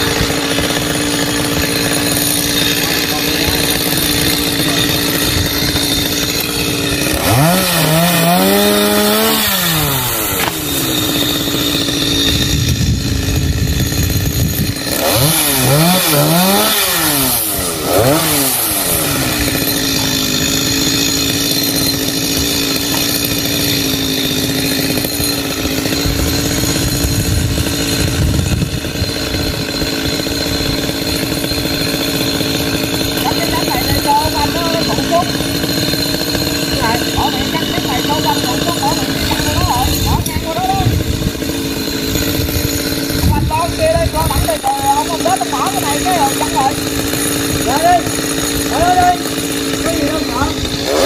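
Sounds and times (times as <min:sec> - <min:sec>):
chainsaw idling and revving: 0:00.0 - 0:51.0.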